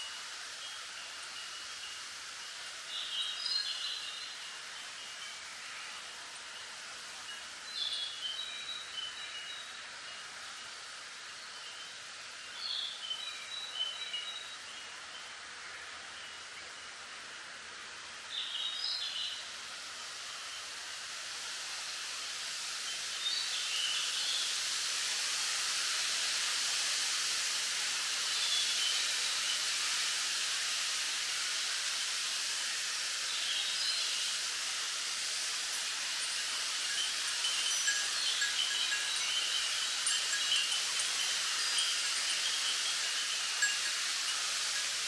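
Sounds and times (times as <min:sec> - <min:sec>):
wind rustling bamboo leaves: 0:00.0 - 0:45.0.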